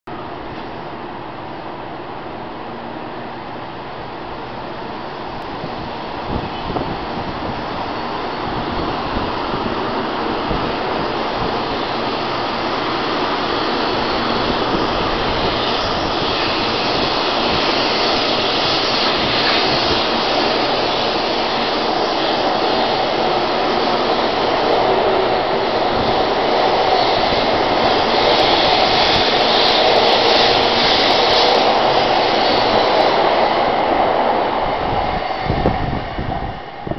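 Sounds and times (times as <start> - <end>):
high-speed train rushing: 0.1 - 36.9.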